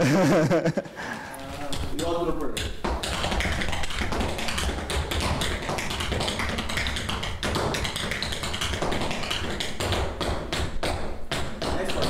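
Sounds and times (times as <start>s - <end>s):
tap shoes on wooden floor: 1.4s - 12.0s.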